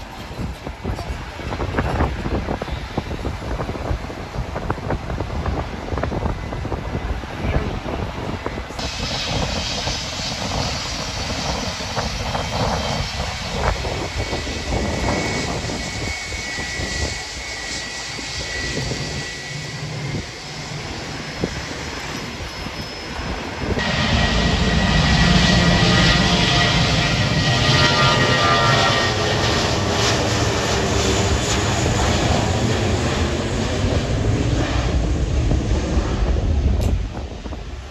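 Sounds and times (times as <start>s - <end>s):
high engine whine: 0.0s - 37.9s
jet engines roaring: 0.0s - 37.9s.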